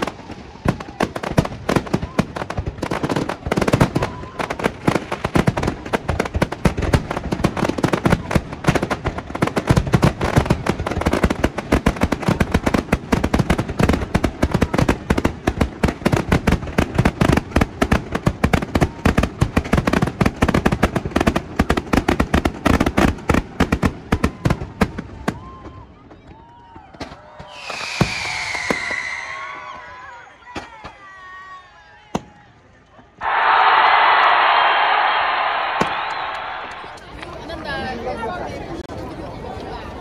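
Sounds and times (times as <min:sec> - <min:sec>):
fireworks bangs and crackling: 0:00.0 - 0:31.2, 0:33.2 - 0:37.9.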